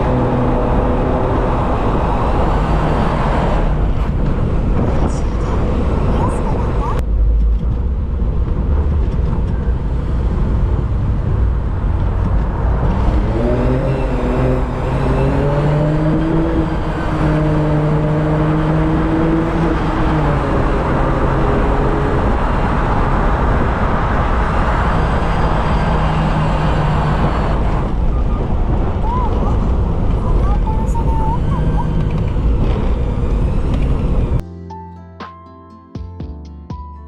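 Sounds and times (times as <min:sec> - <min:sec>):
road and wind noise: 0:00.0 - 0:34.4.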